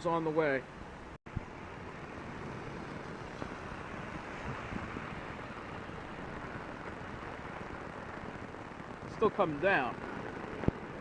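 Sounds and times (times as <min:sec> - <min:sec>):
heavy rain hissing: 0:01.6 - 0:11.0.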